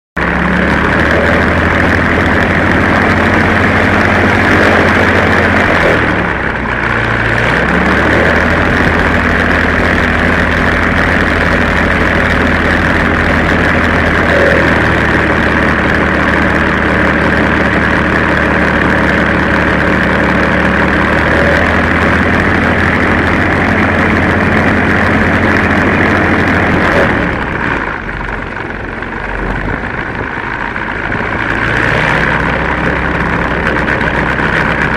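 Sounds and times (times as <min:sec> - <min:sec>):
aircraft engine and propeller running: 0:00.2 - 0:34.9.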